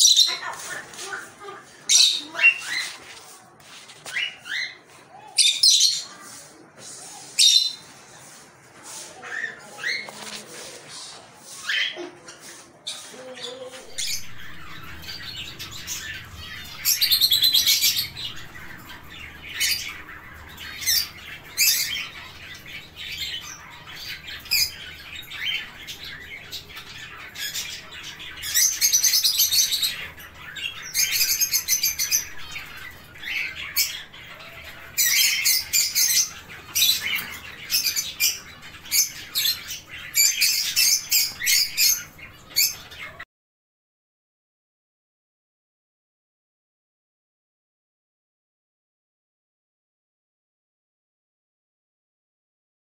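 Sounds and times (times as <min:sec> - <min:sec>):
lovebirds chattering: 0:00.0 - 0:43.2.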